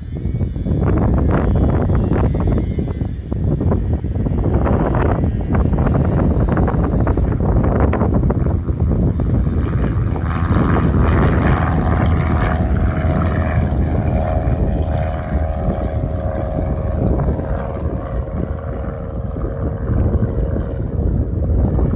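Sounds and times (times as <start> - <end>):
heavy low rumble: 0.0 - 21.9
motor humming: 0.0 - 21.9.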